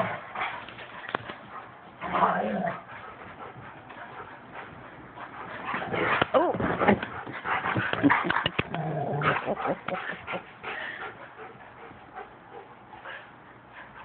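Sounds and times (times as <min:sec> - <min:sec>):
dogs play-fighting vocalizing: 0:00.0 - 0:14.0.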